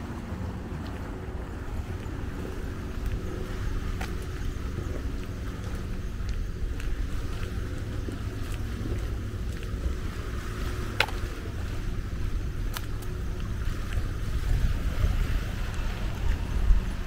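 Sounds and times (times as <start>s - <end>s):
steady outdoor hiss: 0.0s - 17.0s
wind rumbling on microphone: 0.0s - 17.0s.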